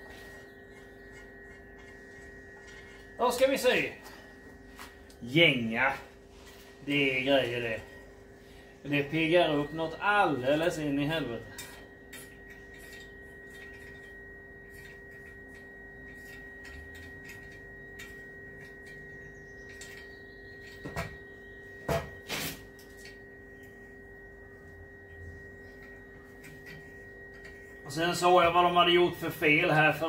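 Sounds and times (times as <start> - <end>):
steady high hum: 0.0 - 30.0.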